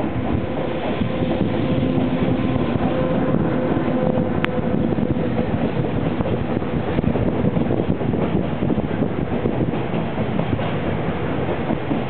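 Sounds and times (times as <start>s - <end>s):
electric locomotive hum: 0.0s - 12.0s
train wheels rumbling: 0.0s - 12.0s.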